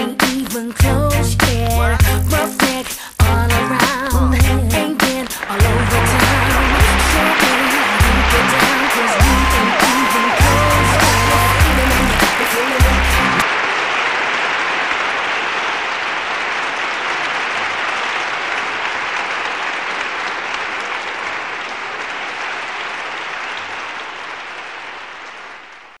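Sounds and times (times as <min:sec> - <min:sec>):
large crowd applauding: 0:04.8 - 0:26.0.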